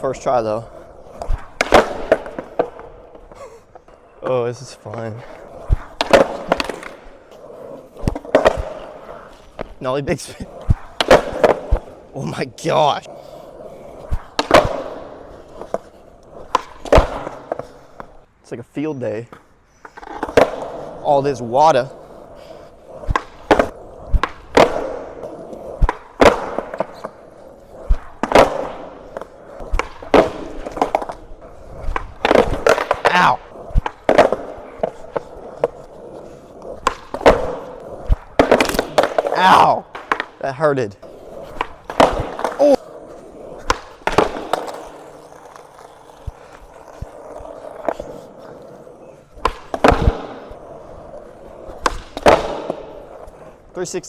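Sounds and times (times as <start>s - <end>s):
skateboard clacks: 0.0s - 18.3s, 19.2s - 54.0s
skateboard wheels rolling: 0.0s - 54.0s.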